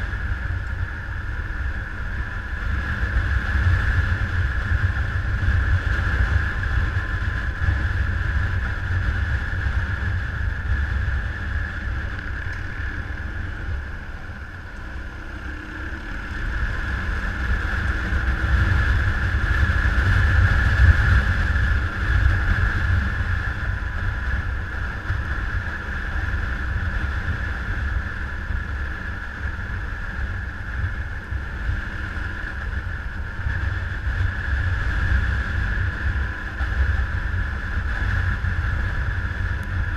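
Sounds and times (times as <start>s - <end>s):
vehicle running: 0.0s - 39.9s
wind rumble on microphone: 0.0s - 39.9s.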